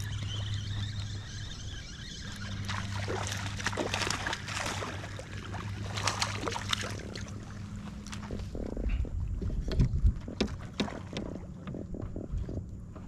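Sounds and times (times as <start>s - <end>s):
water splashing and trickling: 0.0s - 12.0s
steady low hum: 0.0s - 13.0s.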